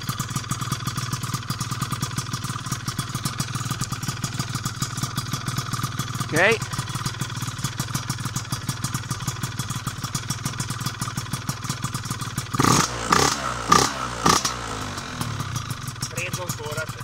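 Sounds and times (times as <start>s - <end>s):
scooter engine idling: 0.0s - 17.0s.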